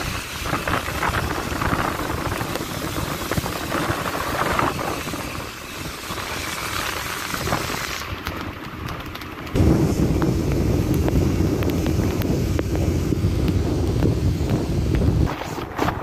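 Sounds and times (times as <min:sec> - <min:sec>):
tyres hissing on wet road: 0:00.0 - 0:08.4, 0:09.6 - 0:16.0
wind rumble on microphone: 0:00.0 - 0:16.0.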